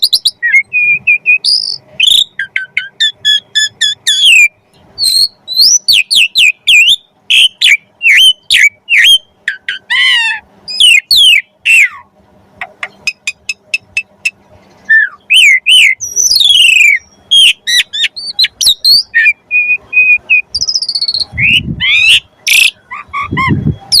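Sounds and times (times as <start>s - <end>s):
starling singing whistles and trills: 0.0s - 24.0s.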